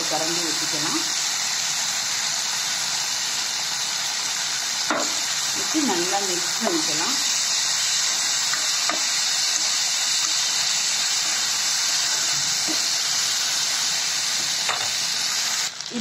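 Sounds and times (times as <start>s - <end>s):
vegetables sizzling in sauce: 0.0s - 16.0s.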